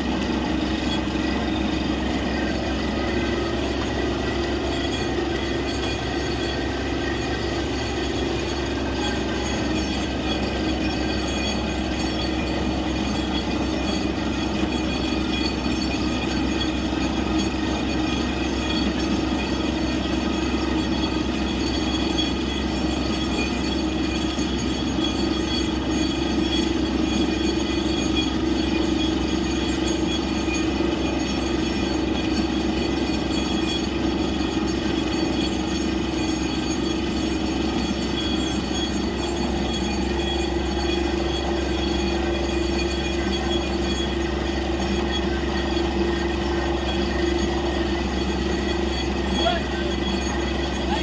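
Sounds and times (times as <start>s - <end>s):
drilling rig engine droning: 0.0s - 51.0s.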